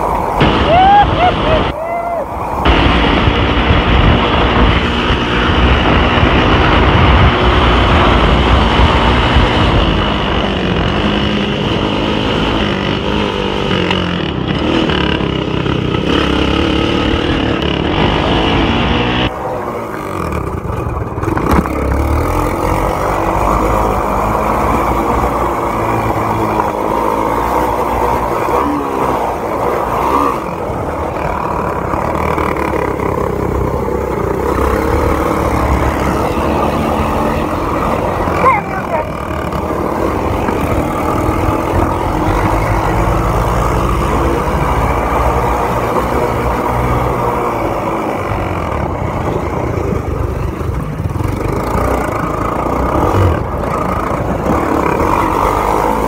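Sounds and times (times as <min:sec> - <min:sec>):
wind: 0:00.0 - 0:56.0
racing engine running hard: 0:02.4 - 0:56.0.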